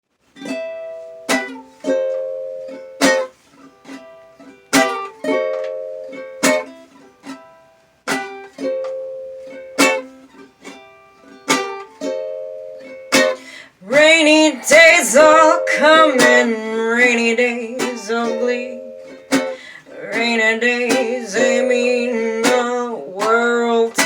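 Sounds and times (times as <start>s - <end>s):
small acoustic string instrument strummed: 0.1s - 24.0s.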